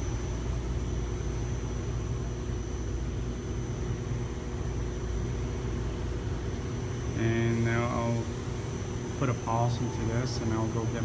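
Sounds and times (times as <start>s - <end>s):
faint high whine: 0.0s - 11.0s
low machine hum: 0.0s - 11.0s.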